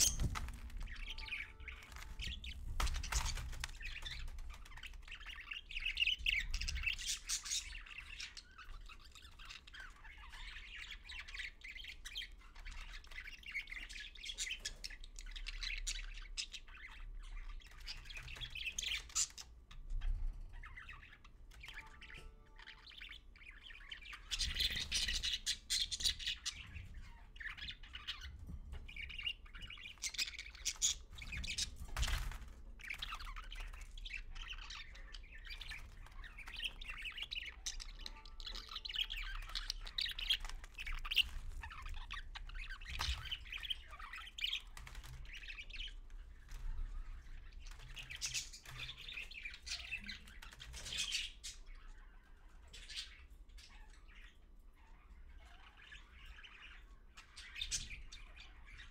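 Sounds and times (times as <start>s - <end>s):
budgerigar chirping and chattering: 0.0s - 46.0s, 47.1s - 58.9s.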